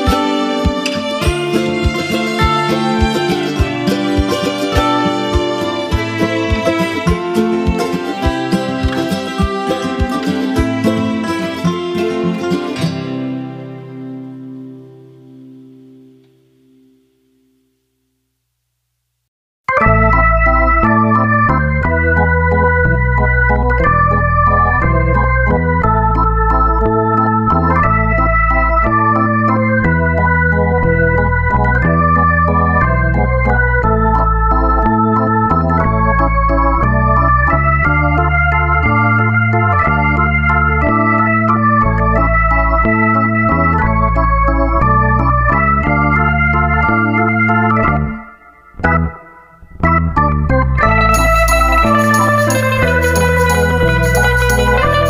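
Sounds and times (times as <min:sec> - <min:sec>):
bass line: 0:00.0 - 0:11.3, 0:19.7 - 0:55.0
organ-like keyboard chords: 0:00.0 - 0:17.7, 0:19.7 - 0:55.0.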